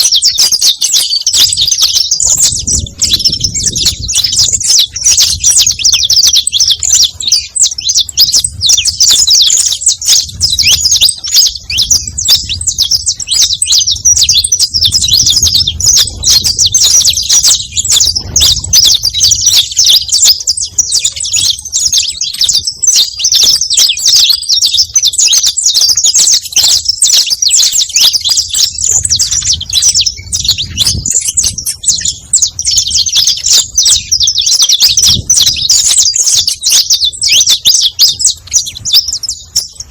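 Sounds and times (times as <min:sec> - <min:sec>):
finch singing rapid chirps: 0:00.0 - 0:39.9.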